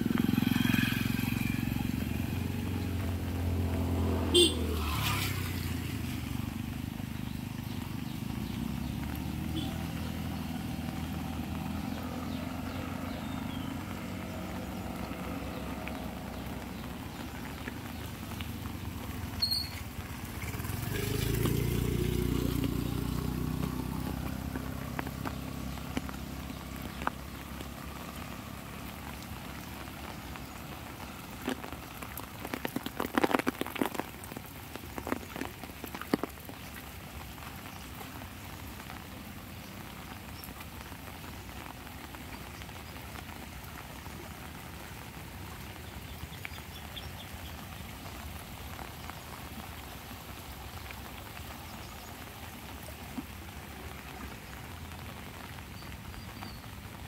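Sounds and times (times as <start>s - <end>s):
rain: 0.0s - 57.0s
raindrops tapping on umbrella: 0.0s - 57.0s
vehicle engine hum: 0.0s - 57.0s.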